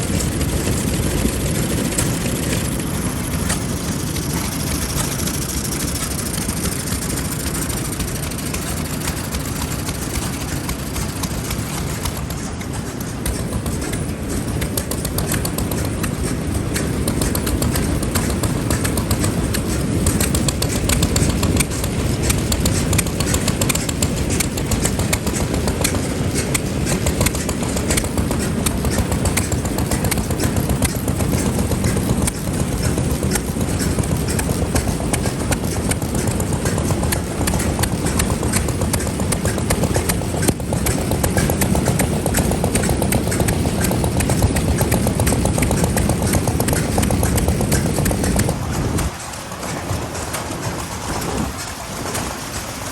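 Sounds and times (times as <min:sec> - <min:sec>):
stationary engines running: 0:00.0 - 0:52.9.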